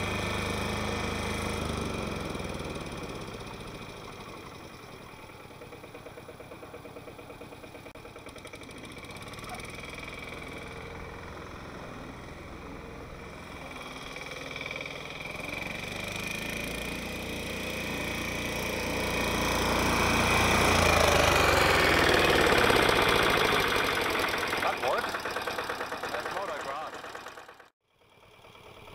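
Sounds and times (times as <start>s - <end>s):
mower diesel engine running: 0.0s - 28.9s.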